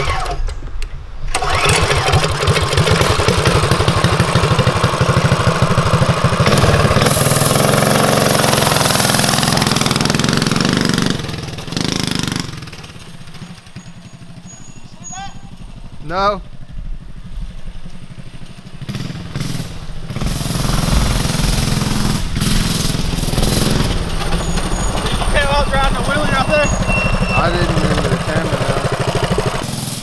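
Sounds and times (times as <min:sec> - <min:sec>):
mini bike engine revving: 0:01.3 - 0:30.0.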